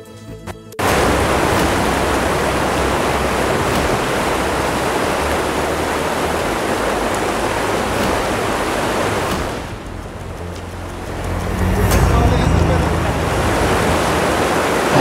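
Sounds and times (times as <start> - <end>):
low rumble: 0.8 - 15.0
torrential floodwater rushing: 0.8 - 15.0.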